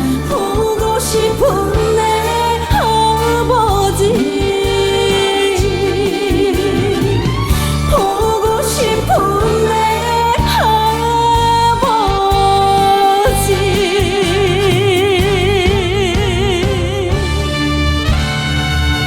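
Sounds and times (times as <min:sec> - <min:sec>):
woman singing: 0:00.0 - 0:17.8
band accompaniment: 0:00.0 - 0:19.0.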